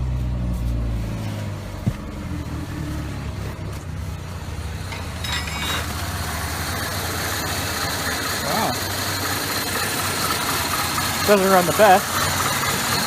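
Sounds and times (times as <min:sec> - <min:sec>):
car engine running roughly: 0:00.0 - 0:13.0.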